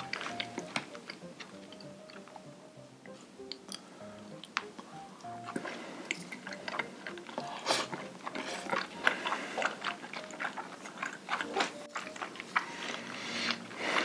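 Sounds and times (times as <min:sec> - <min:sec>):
chewing food: 0:00.0 - 0:02.5, 0:03.4 - 0:14.0.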